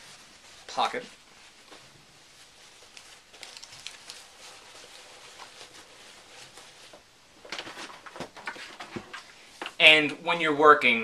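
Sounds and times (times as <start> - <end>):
cloth and packaging rustling: 0.0 - 9.8.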